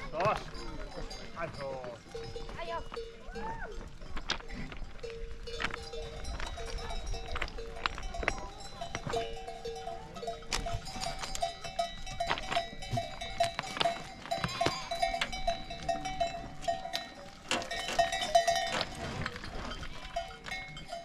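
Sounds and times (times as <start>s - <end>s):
sheep bells clanking: 0.0s - 21.0s.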